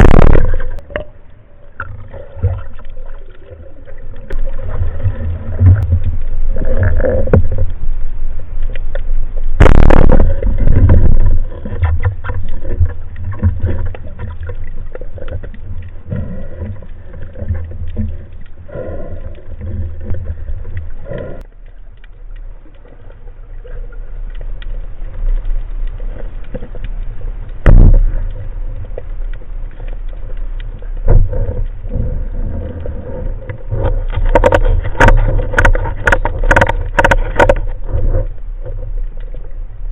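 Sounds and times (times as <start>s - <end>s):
steady low rumble: 0.0s - 39.9s
water rushing underwater: 0.0s - 39.9s.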